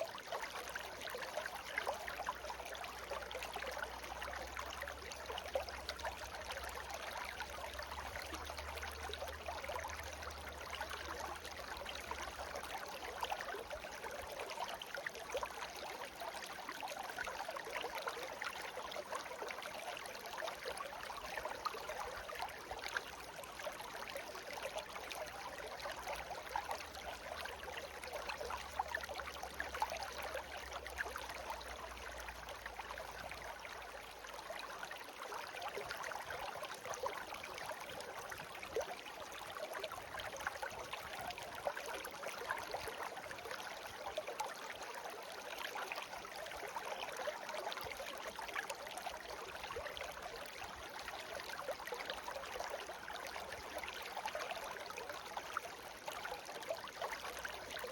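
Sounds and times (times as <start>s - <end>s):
stream babbling: 0.0s - 57.9s.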